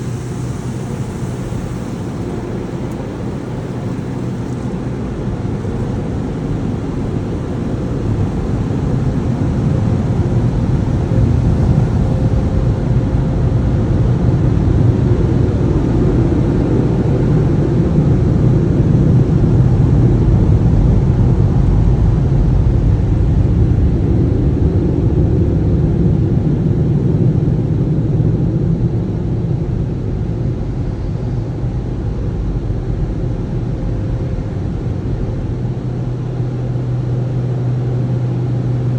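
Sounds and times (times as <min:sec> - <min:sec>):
car wash machinery rumbling: 0:00.0 - 0:38.9.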